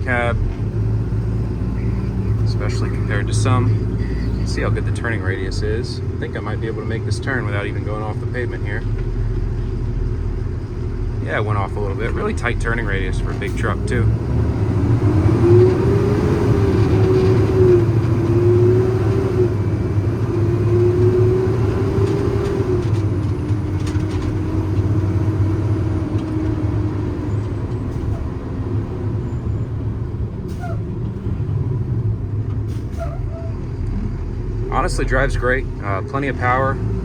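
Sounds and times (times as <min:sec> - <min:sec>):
diesel truck engine rumble: 0:00.0 - 0:37.0
drivetrain whine: 0:00.0 - 0:37.0.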